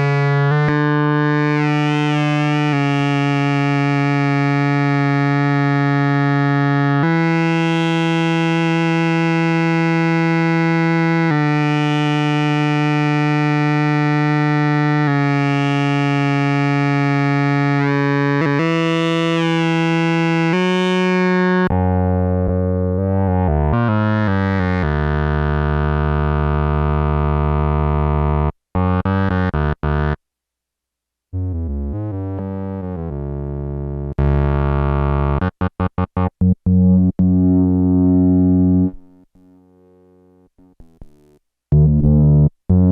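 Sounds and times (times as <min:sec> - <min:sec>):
out of tune synthesizer notes: 0:00.0 - 0:30.2, 0:31.4 - 0:42.9.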